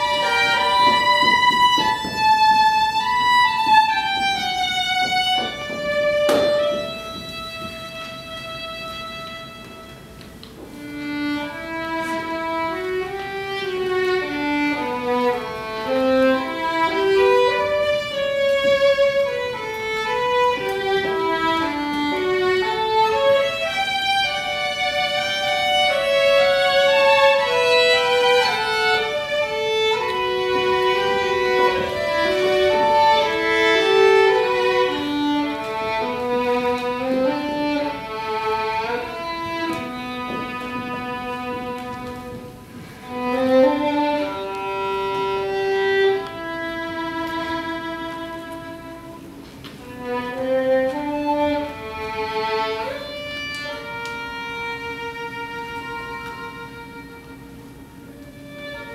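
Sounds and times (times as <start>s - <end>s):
solo violin melody: 0.0s - 58.9s.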